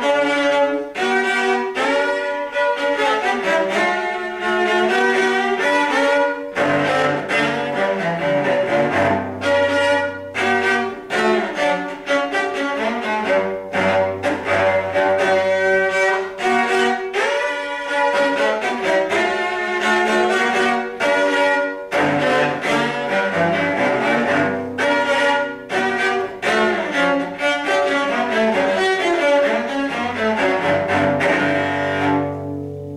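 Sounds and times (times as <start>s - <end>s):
bowed cello playing rock: 0.0s - 32.9s.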